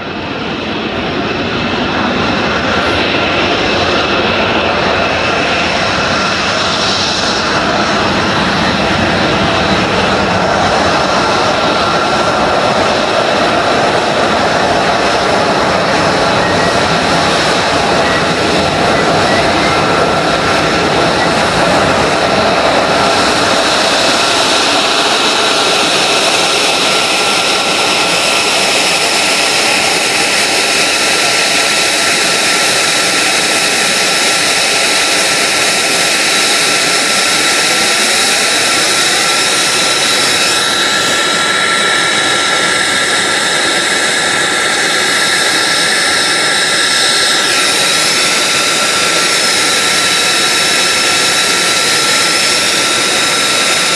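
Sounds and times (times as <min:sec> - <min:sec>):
jet engine roar with high whine: 0:00.0 - 0:53.9.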